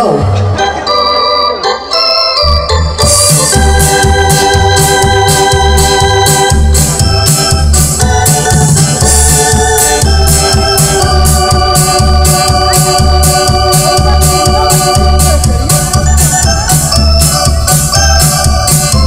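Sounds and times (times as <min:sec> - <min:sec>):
keyboard organ-like chords: 0:00.0 - 0:19.0
live band playing dance music: 0:00.0 - 0:19.0.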